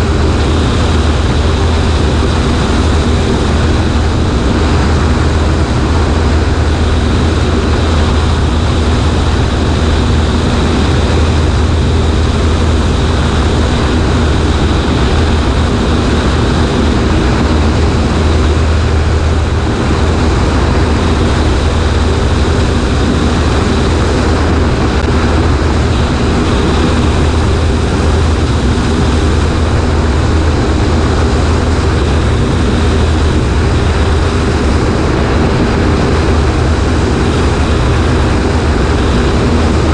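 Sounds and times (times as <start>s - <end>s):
propeller plane engine: 0.0s - 39.9s
wind rush on microphone: 0.0s - 39.9s.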